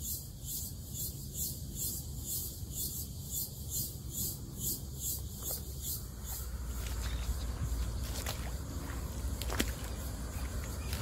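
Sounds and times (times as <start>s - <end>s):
insects pulsing chorus: 0.0s - 11.0s
steady low rumble: 0.2s - 11.0s.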